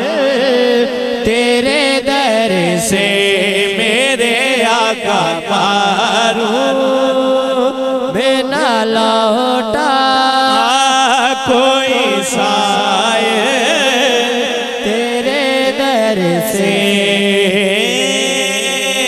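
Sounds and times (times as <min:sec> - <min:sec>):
man singing ornamented phrases: 0:00.0 - 0:19.0.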